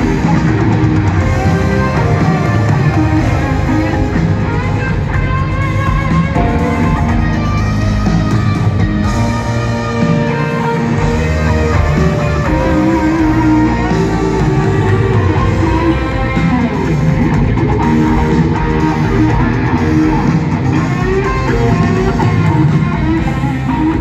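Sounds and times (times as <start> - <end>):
electric guitar: 0.0 - 24.0
live rock band through pa: 0.0 - 24.0.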